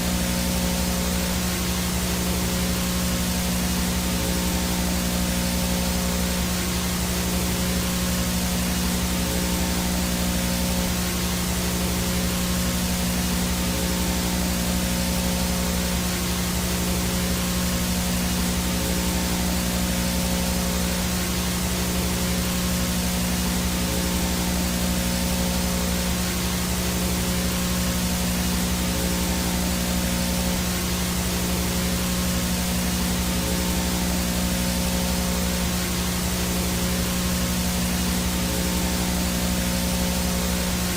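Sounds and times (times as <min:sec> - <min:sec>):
low electrical hum: 0:00.0 - 0:40.9
static hiss: 0:00.0 - 0:40.9.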